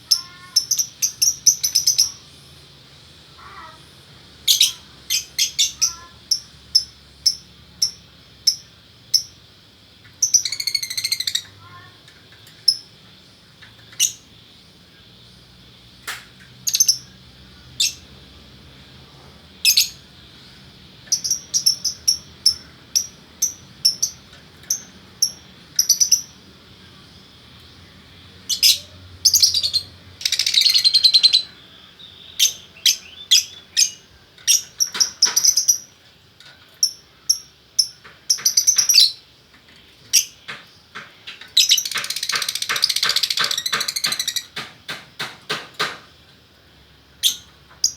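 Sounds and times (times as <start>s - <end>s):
lovebirds chirping and chattering: 0.0s - 46.1s, 47.1s - 47.9s.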